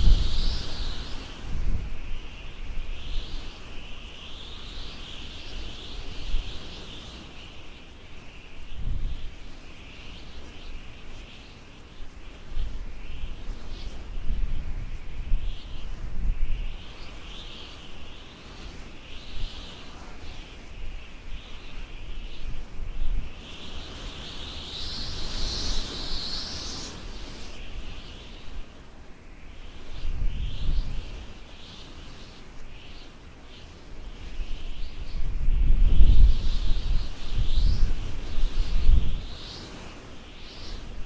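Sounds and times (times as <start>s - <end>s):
wind buffeting microphone: 0.0s - 11.2s, 12.0s - 28.8s, 29.4s - 32.0s, 33.6s - 41.0s
insects shrill chorus: 0.0s - 14.1s, 14.9s - 35.4s, 36.0s - 41.0s.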